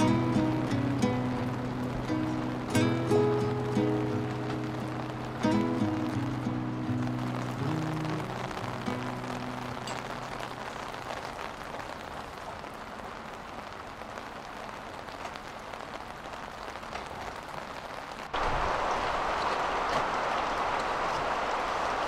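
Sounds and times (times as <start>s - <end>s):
heavy downpour: 0.0s - 22.0s
steady rain falling: 0.0s - 22.0s.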